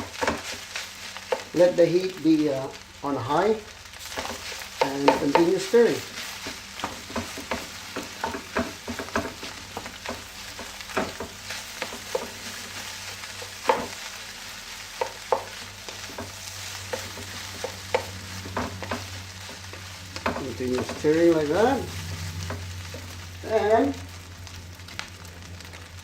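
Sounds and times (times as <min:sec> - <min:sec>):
rice sizzling in a pan: 0:00.0 - 0:26.0.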